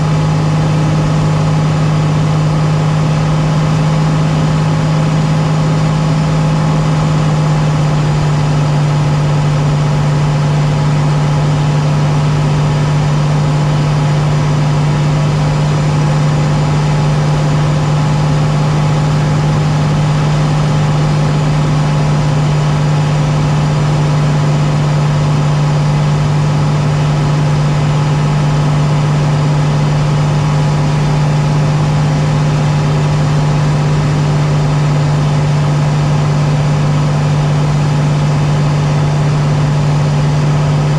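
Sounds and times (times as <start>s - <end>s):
small aircraft engine droning: 0.0s - 40.9s.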